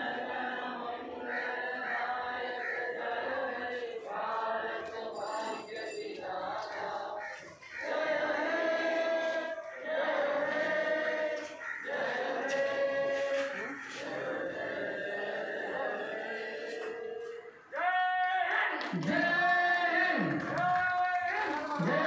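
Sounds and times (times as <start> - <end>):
mixed choir singing: 0.0 - 17.8, 18.8 - 20.7, 21.3 - 22.0.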